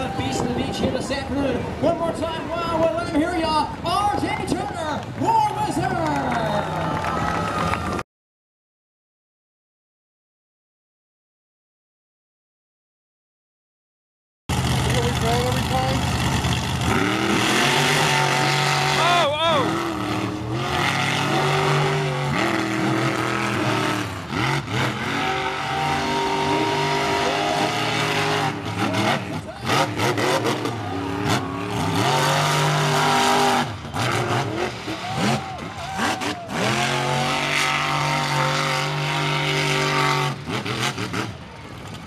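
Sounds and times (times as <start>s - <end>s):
monster truck engines revving: 0.0s - 8.0s, 14.5s - 42.0s.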